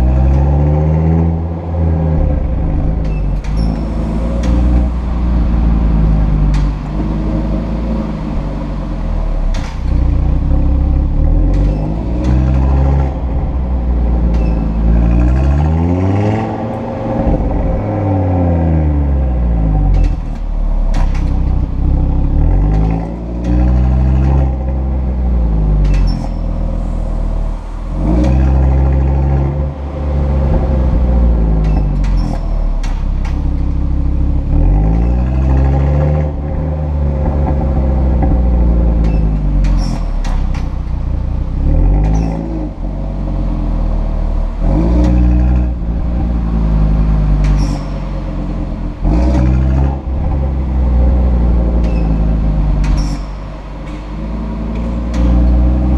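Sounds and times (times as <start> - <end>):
car engine revving: 0.0 - 55.9
exhaust flaps squeaking: 2.4 - 15.6, 19.6 - 42.9, 45.0 - 55.9.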